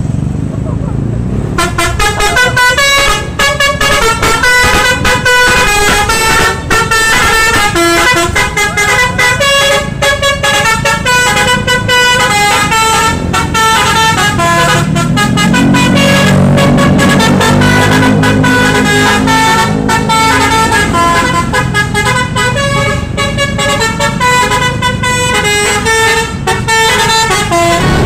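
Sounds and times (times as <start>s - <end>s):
musical air horn tune: 1.6s - 28.0s.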